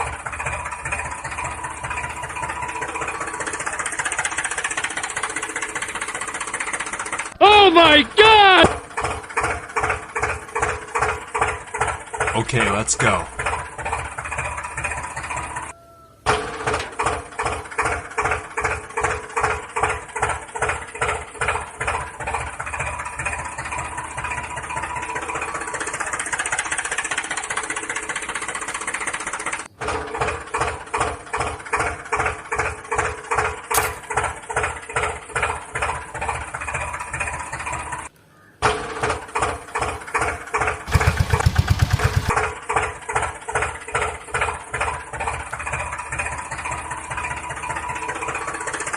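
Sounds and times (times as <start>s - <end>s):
engine buzzing: 0.0s - 48.9s
small engine chugging: 0.0s - 48.9s.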